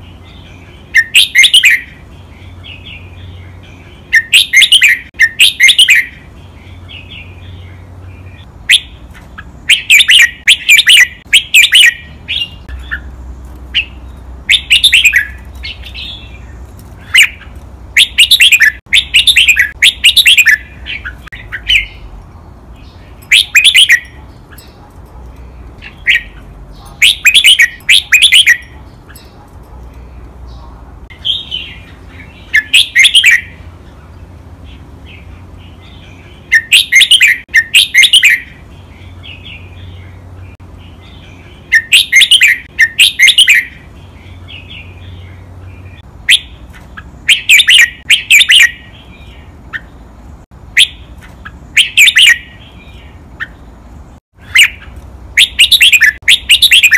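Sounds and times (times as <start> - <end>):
bird singing high phrases: 0.0 - 56.9.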